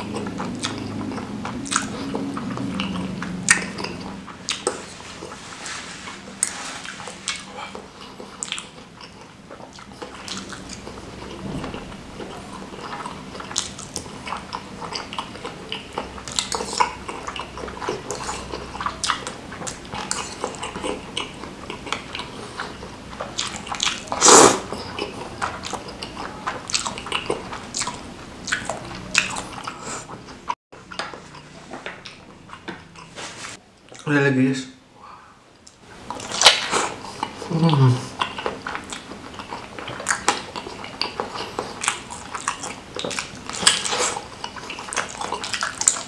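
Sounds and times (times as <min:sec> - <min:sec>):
wet chewing and smacking: 0:00.0 - 0:05.5, 0:06.1 - 0:33.2, 0:35.6 - 0:46.0
slurping: 0:00.0 - 0:34.0, 0:36.0 - 0:46.0.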